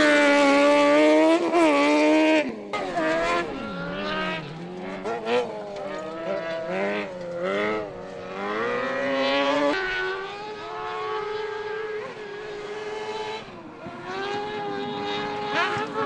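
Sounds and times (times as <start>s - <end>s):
distant buggy engine: 0.0s - 16.0s
racing buggy engines revving: 0.0s - 16.0s.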